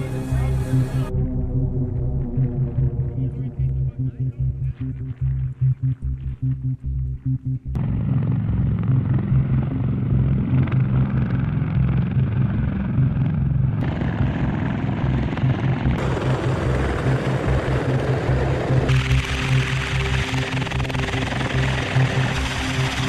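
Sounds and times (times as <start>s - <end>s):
aircraft engine throbbing: 0.0s - 23.0s.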